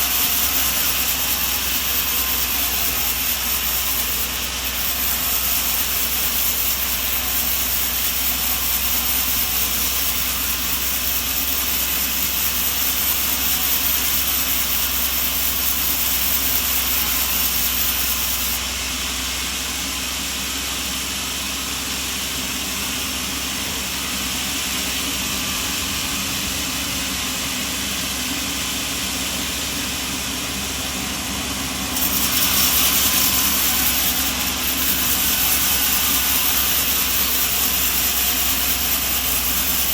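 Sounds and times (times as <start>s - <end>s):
machinery noise with high hiss: 0.0s - 39.9s.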